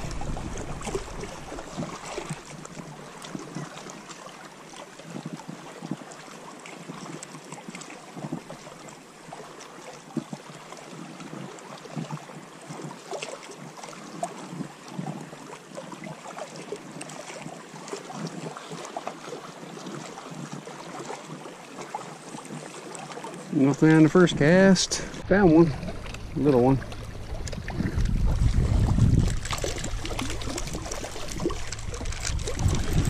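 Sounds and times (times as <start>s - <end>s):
small waves lapping against rocks: 0.0s - 33.0s.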